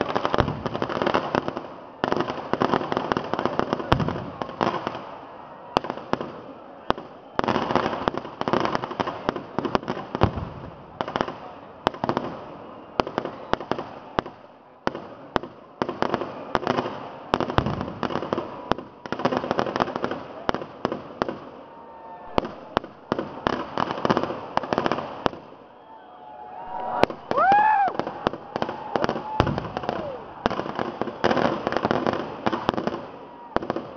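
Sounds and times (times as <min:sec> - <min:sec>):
fireworks bangs: 0:00.0 - 0:33.9.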